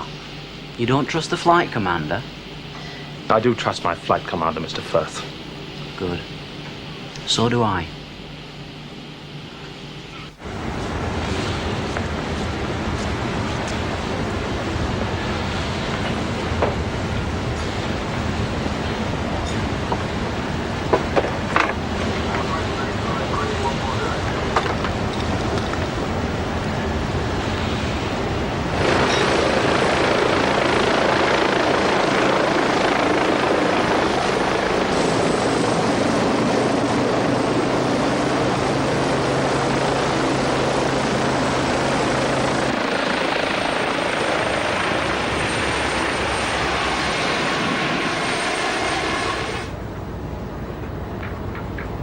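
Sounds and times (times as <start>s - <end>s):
helicopter rotor and engine: 0.0s - 52.0s.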